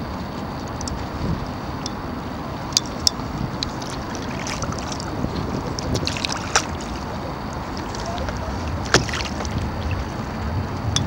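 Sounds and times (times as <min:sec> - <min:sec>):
water lapping against a kayak: 0:00.0 - 0:11.0
wind rumbling on microphone: 0:00.0 - 0:11.0.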